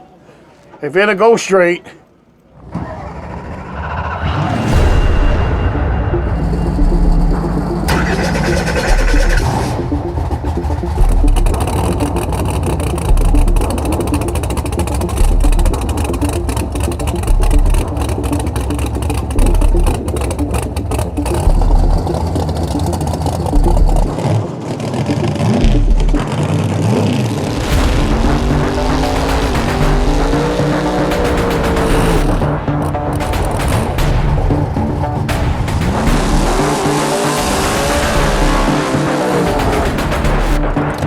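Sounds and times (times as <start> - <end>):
race car engines revving: 2.0 - 41.0
dramatic soundtrack music: 2.6 - 41.0
deep bass hits: 3.7 - 12.3, 13.0 - 24.6, 25.6 - 26.4, 27.3 - 41.0.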